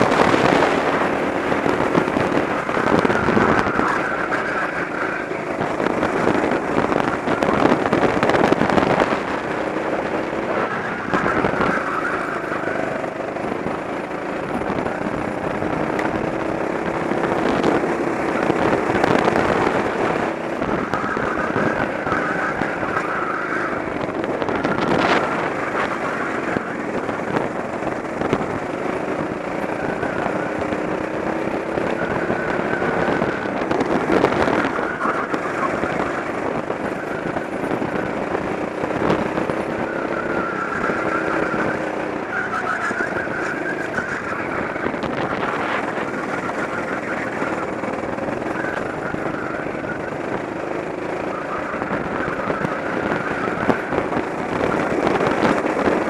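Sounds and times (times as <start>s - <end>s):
go-kart engine accelerating: 0.0s - 56.0s
wind and road noise: 0.0s - 56.0s.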